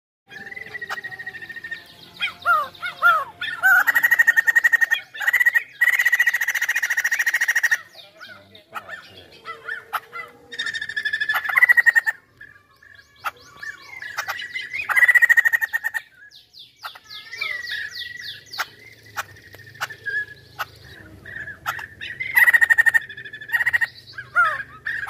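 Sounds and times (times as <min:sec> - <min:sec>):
bird singing whistles and trills: 0:00.3 - 0:25.0.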